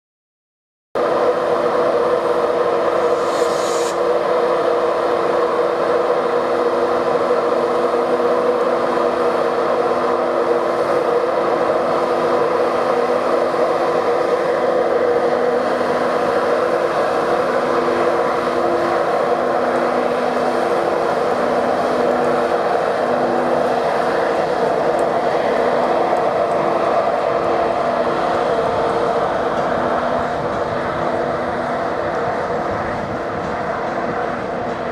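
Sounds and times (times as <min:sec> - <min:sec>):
train running: 0:01.0 - 0:34.9.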